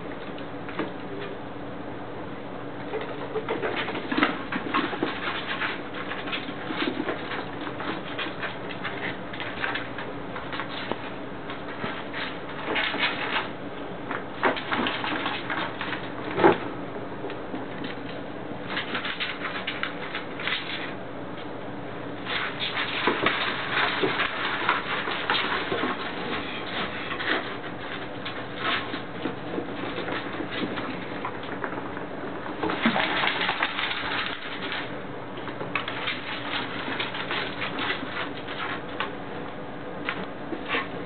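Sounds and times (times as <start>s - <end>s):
claws scrabbling on wood and cardboard: 2.8s - 21.0s, 22.2s - 39.2s.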